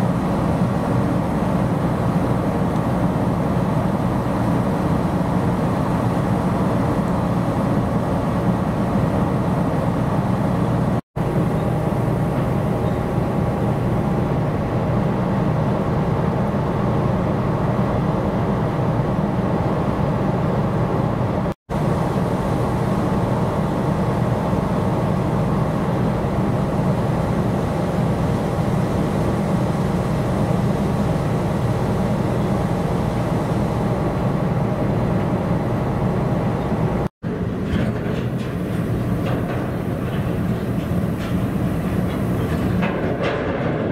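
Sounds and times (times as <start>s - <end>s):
steady hum tones: 0.0s - 43.3s
ship diesel engine drone: 0.0s - 43.5s.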